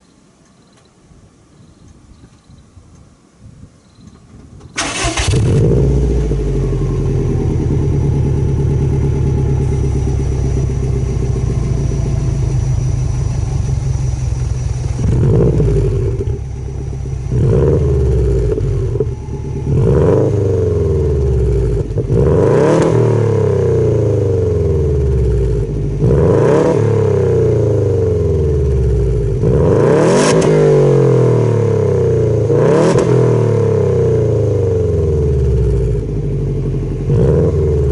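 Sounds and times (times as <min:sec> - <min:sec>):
car engine idling and revving: 0:04.8 - 0:37.9.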